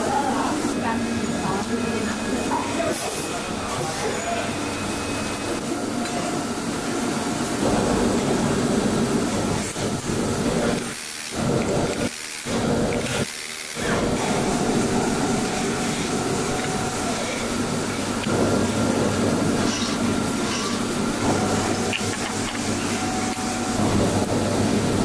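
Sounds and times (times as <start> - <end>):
constant hum: 0.0 - 25.0
factory machinery noise: 0.0 - 25.0.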